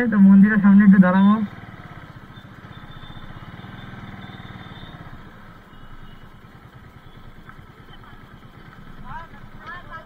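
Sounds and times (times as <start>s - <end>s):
motorcycle engine running: 0.1s - 10.0s.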